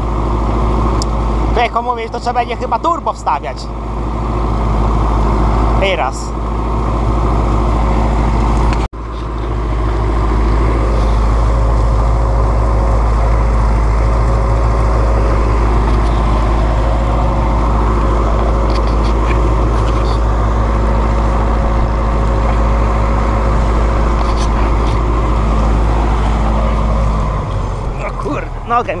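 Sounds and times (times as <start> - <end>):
tractor engine under load: 0.0 - 29.0.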